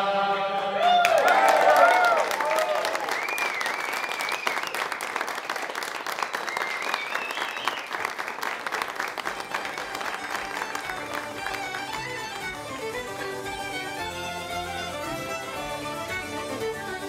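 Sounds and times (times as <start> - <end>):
people clapping: 0.8 - 17.0.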